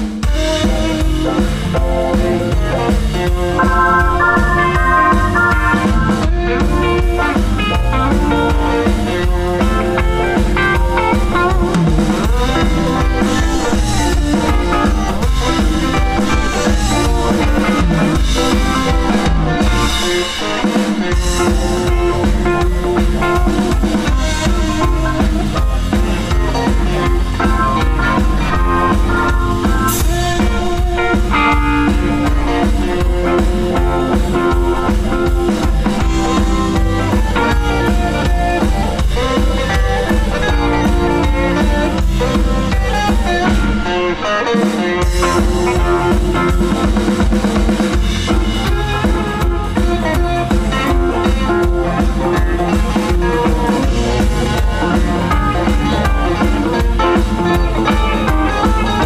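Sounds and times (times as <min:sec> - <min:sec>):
blues band playing: 0:00.0 - 0:59.0.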